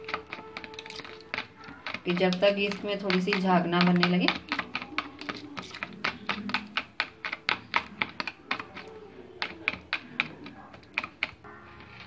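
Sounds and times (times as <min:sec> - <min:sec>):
spoon clicking against plastic bowl: 0:00.0 - 0:11.4.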